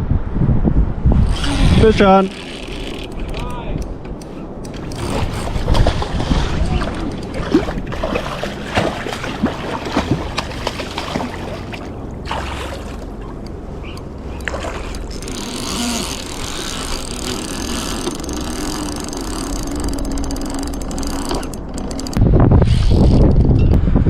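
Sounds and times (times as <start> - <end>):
boat motor rumbling: 0.9 - 23.7.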